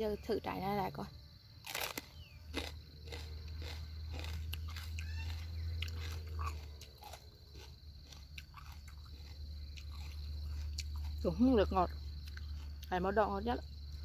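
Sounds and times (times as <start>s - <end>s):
crunching and chewing pepper: 1.6s - 13.1s.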